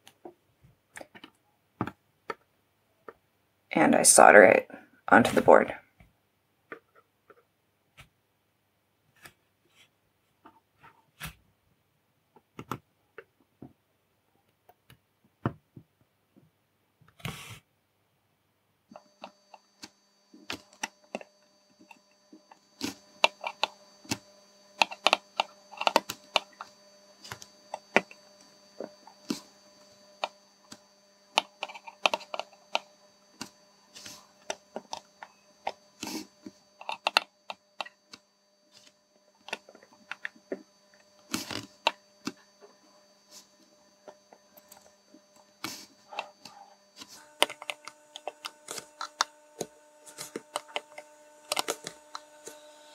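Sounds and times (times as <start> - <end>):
faint electrical hum: 0.0 - 52.9.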